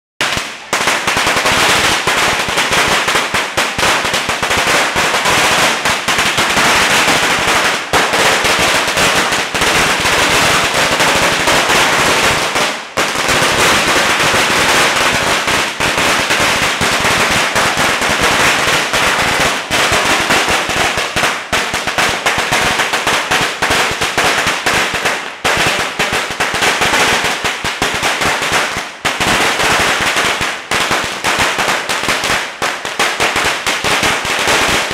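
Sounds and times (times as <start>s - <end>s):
firecrackers crackling: 0.2s - 34.9s.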